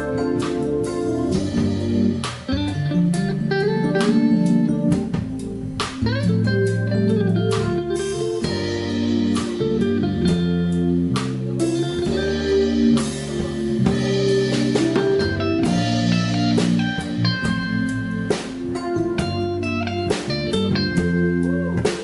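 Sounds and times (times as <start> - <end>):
drums and cymbal hits: 0.0 - 6.8, 7.5 - 22.0
blues band playing: 0.0 - 22.0
guitar melody: 0.0 - 22.0.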